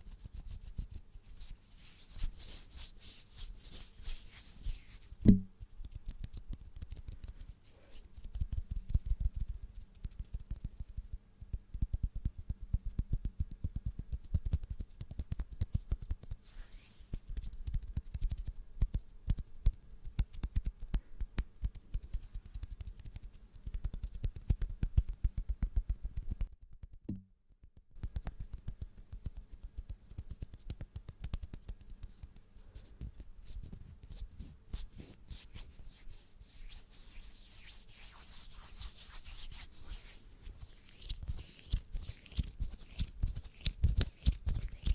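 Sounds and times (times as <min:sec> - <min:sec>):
hands rubbing and scratching: 0:00.0 - 0:26.9, 0:28.0 - 0:44.9.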